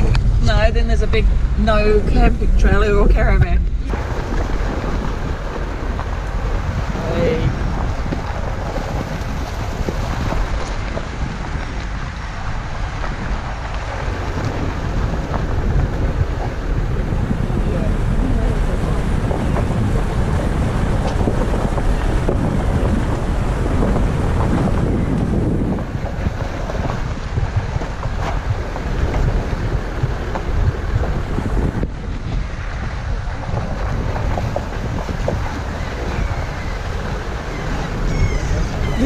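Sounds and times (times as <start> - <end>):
vehicle driving on gravel: 0.0 - 39.0
wind buffeting microphone: 0.0 - 39.0.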